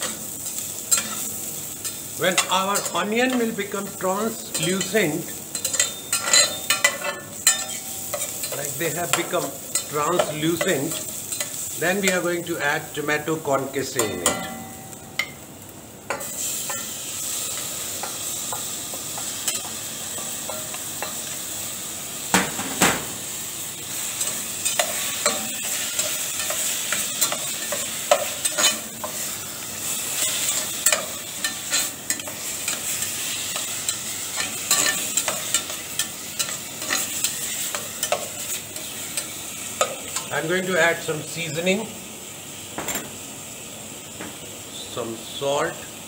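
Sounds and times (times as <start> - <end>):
tomatoes sizzling in hot oil: 0.0 - 46.0.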